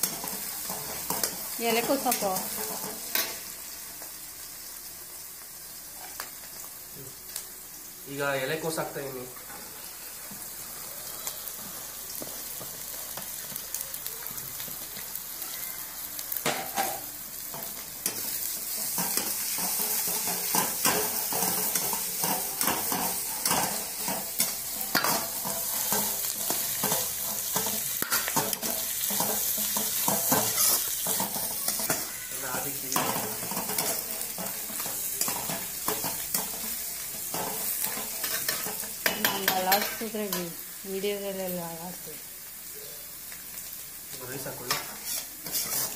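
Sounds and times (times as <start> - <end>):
vegetables sizzling in wok: 0.0 - 45.9.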